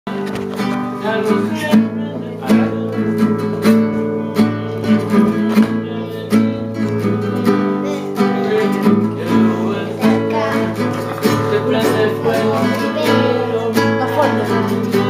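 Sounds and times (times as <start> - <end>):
acoustic guitar strumming: 0.1 - 15.0.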